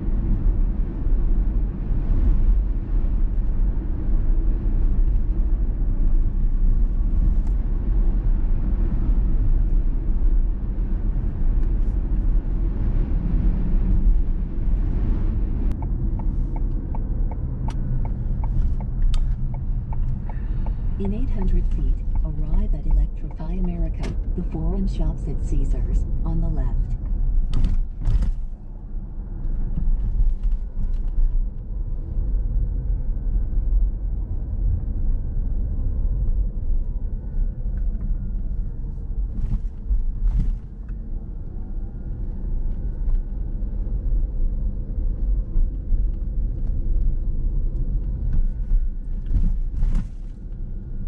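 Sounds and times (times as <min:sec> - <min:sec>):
faint steady whine: 0:00.0 - 0:51.0
road and tyre rumble: 0:00.0 - 0:51.0.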